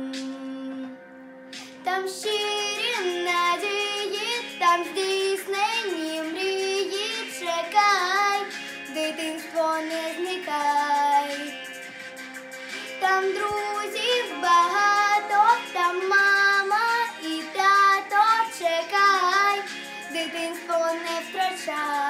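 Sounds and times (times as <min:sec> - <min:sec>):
girl singing: 0:00.0 - 0:01.0, 0:01.8 - 0:11.6, 0:12.8 - 0:22.0
instrumental backing track: 0:00.0 - 0:22.0.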